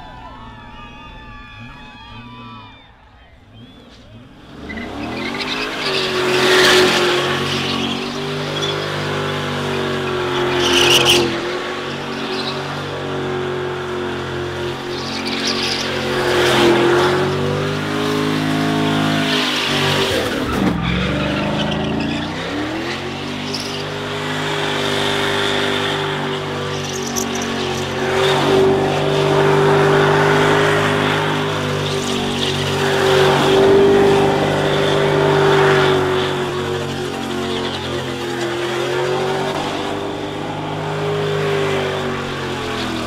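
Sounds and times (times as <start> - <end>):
car engine revving: 0.0 - 43.0
tyres squealing: 0.0 - 43.0.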